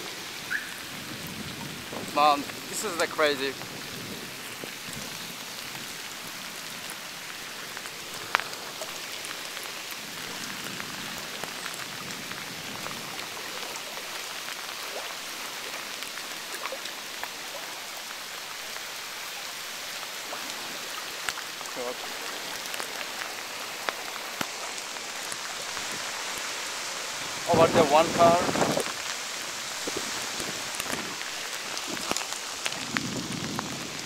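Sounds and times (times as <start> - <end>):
heavy rain on pavement: 0.0 - 34.0.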